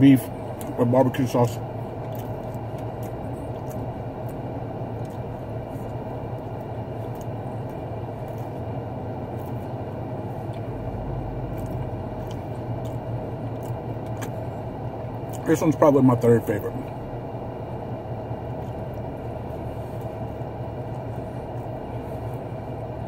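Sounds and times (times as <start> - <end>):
car cabin hum: 0.0 - 23.0
faint chewing: 0.5 - 15.6, 18.4 - 23.0.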